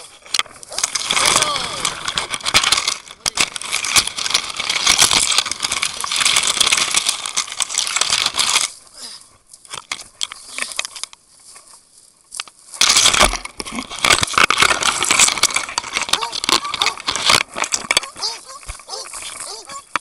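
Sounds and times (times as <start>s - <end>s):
twigs scraping and crackling: 0.0s - 20.0s.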